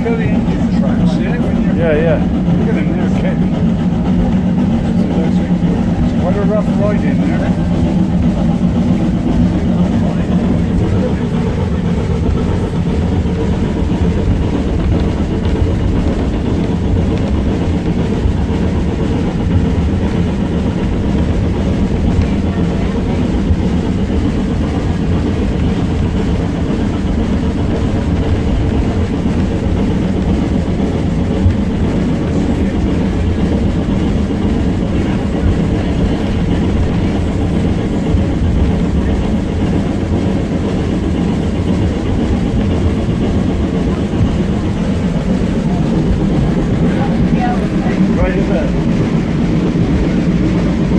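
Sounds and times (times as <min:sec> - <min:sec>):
train wheels rumbling on track: 0:00.0 - 0:50.9.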